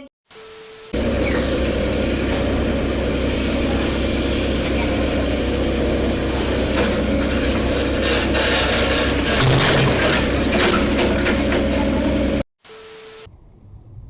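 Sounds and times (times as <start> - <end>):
vehicle engine running: 0.9 - 12.4.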